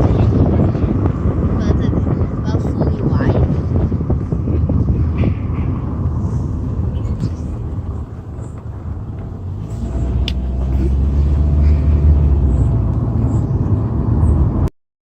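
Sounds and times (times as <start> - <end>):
car road and engine rumble: 0.0 - 14.7.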